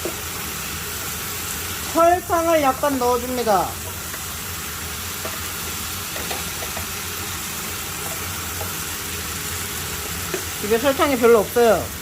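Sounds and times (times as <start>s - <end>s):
meat frying in a pan: 0.0s - 12.0s.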